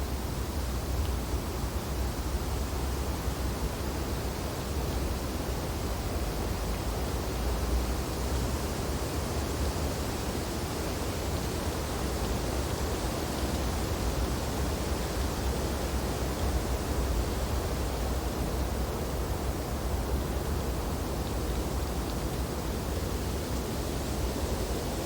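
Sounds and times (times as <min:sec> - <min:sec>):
wind through tree branches: 0:00.0 - 0:25.0.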